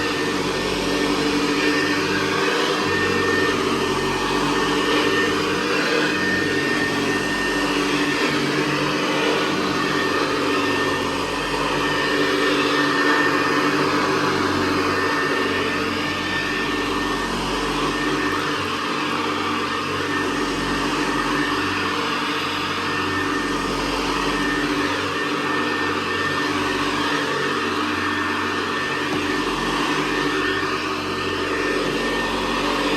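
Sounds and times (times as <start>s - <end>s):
upright vacuum cleaner running: 0.0s - 32.9s.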